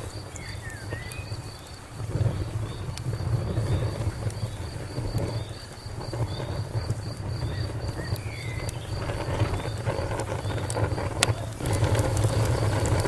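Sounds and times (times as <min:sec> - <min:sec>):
open fire crackling: 0:00.0 - 0:13.0
sharp pops: 0:00.0 - 0:13.0.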